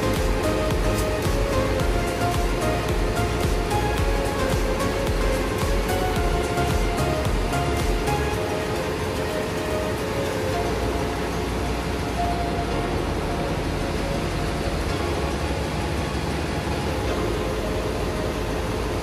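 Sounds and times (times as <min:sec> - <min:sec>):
engine room machinery running: 0:00.0 - 0:19.0
faint background music: 0:00.0 - 0:19.0.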